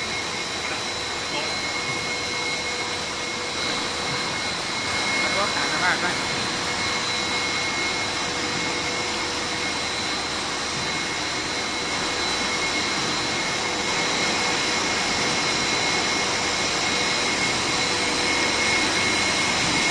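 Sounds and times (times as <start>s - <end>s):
constant high-pitched whines: 0.0s - 19.9s.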